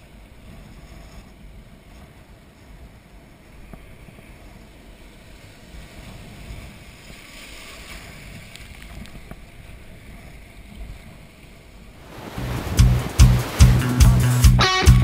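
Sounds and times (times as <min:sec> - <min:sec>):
water splashing around kayak: 0:00.0 - 0:14.6
breaking surf: 0:00.0 - 0:15.0
wind buffeting microphone: 0:00.0 - 0:15.0.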